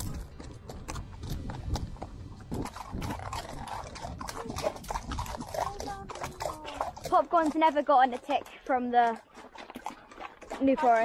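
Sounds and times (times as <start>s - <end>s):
hooves clopping on gravel: 0.0s - 11.0s
hooves splashing through water: 0.0s - 11.0s.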